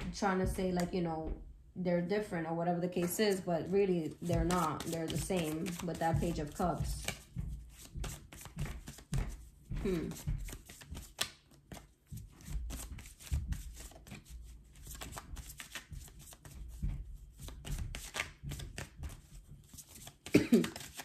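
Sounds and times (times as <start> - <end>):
cards being shuffled: 4.0 - 21.0.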